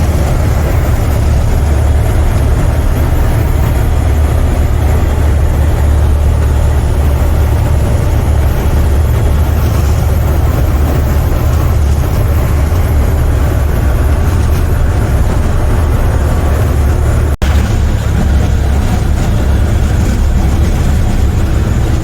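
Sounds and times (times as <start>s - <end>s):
diesel truck engine drone: 0.0s - 22.0s
road and wind noise: 0.0s - 22.0s.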